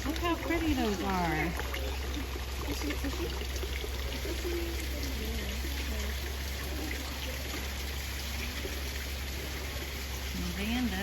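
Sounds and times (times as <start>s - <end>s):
faint voices: 0.0s - 11.0s
water trickling: 0.0s - 11.0s.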